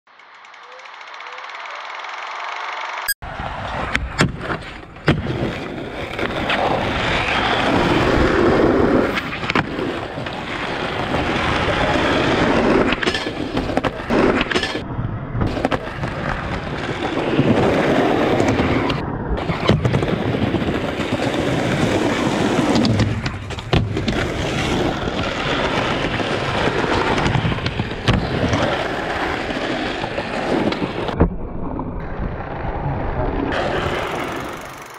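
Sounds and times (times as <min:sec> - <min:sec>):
skateboard wheels rolling on concrete: 0:00.1 - 0:34.9.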